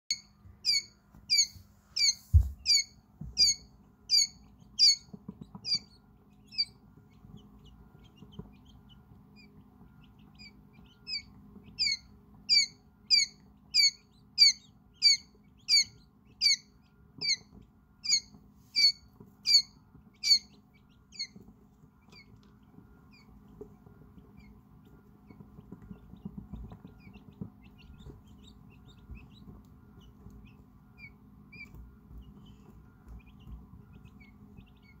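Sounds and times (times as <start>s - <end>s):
faint chick peeps: 0.1s - 35.0s
quail chick peeping loudly: 0.1s - 35.0s.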